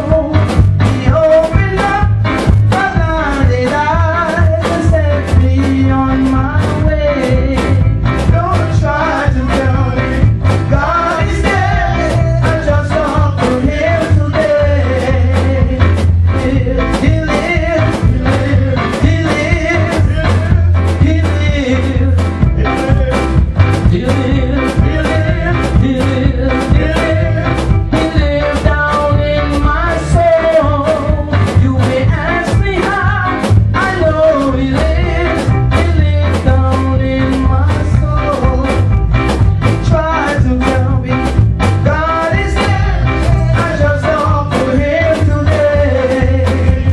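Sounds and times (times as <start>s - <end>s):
person singing: 0.0s - 38.9s, 39.7s - 46.9s
band playing: 0.0s - 46.9s.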